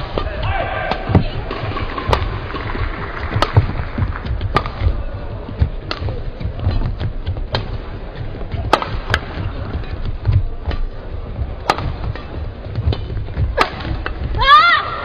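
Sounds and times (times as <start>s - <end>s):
rackets hitting shuttlecock: 0.0s - 14.4s
low hall rumble: 0.0s - 15.0s.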